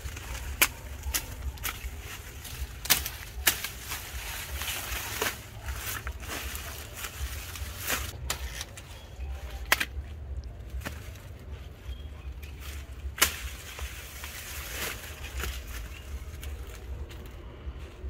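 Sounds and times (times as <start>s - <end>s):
stalks snapping: 0.0s - 8.9s, 9.5s - 11.3s, 12.4s - 16.8s
corn stalks rustling: 0.0s - 18.0s.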